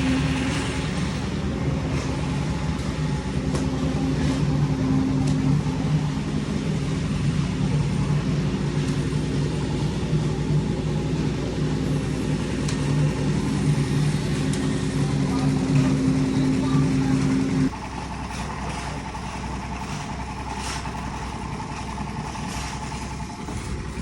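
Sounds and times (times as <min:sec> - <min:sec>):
construction machinery engine humming: 0:00.0 - 0:24.0.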